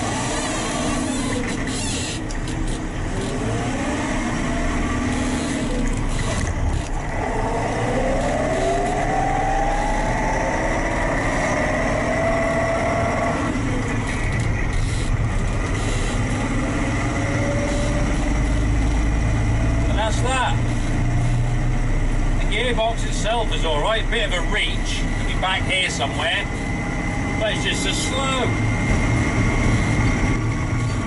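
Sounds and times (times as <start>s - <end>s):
diesel engine running: 0.0s - 31.0s
rising whine: 3.0s - 21.1s, 23.3s - 31.0s.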